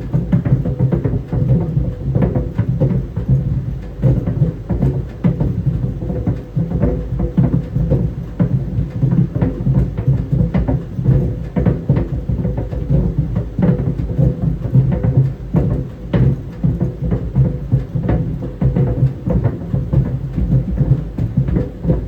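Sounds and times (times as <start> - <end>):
balls thumping in dryer drum: 0.0 - 22.0.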